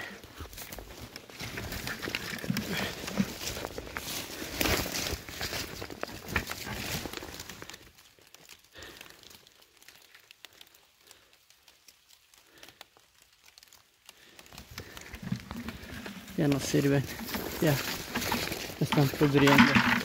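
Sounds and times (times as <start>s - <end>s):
leaf litter rustling and crackling: 0.0s - 20.0s.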